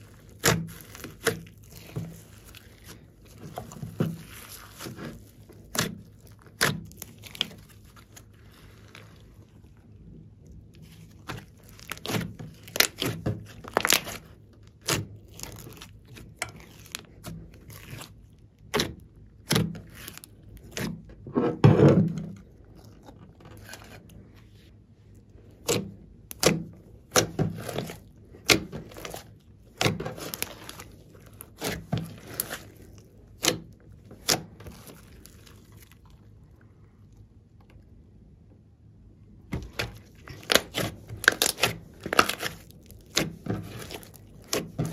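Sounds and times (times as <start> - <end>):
slime squishing: 0.0 - 38.4, 39.3 - 44.9.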